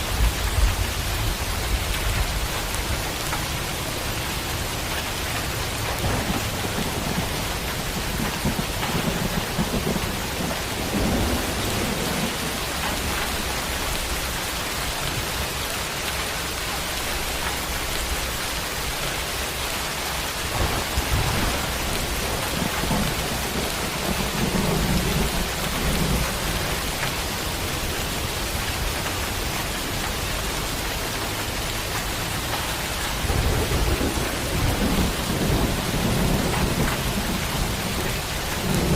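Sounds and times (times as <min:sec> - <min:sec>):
thunder rumbling: 0:00.0 - 0:14.5, 0:17.2 - 0:38.9
heavy rain: 0:00.0 - 0:38.9.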